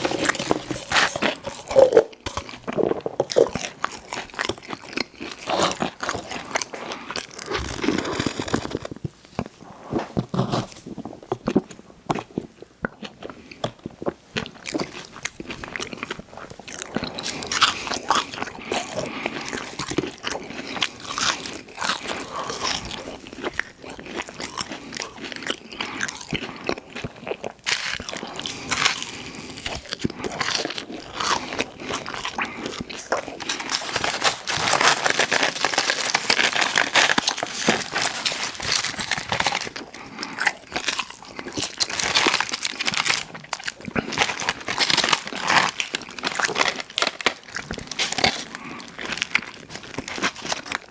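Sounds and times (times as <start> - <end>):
chewing crunchy food: 0.0 - 50.9.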